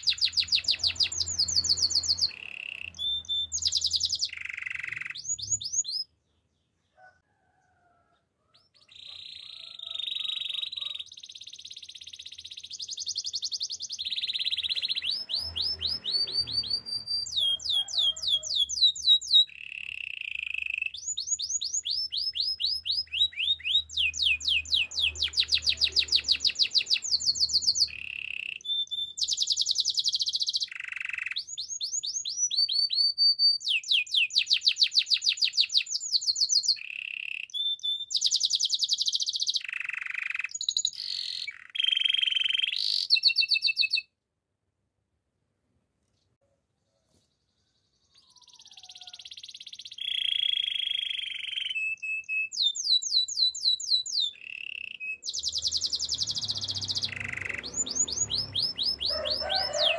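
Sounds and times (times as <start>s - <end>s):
canary singing rapid trills: 0.0s - 6.2s, 8.5s - 44.1s, 47.5s - 59.9s.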